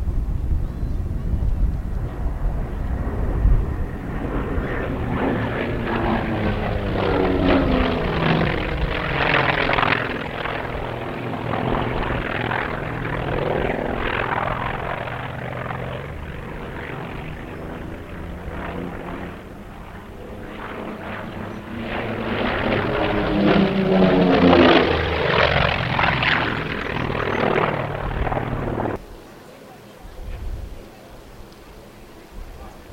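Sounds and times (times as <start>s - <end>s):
propeller airplane engine droning: 0.0s - 32.9s.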